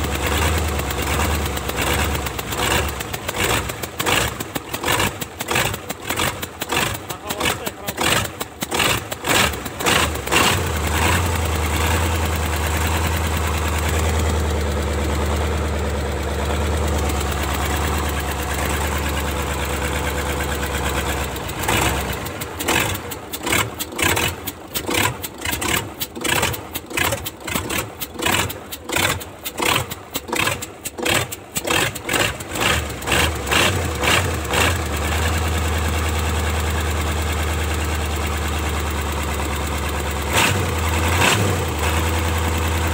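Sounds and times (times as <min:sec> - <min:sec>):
diesel engine starting and running: 0:00.0 - 0:42.9.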